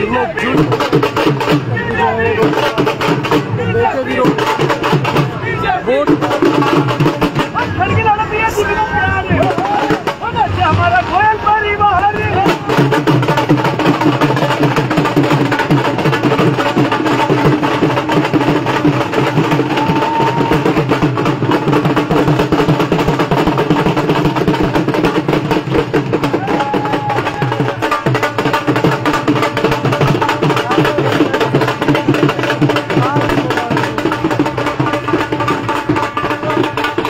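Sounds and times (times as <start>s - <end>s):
crowd voices: 0.0s - 37.0s
loud festive music: 0.0s - 37.0s
rapid steady drumming: 0.0s - 37.0s.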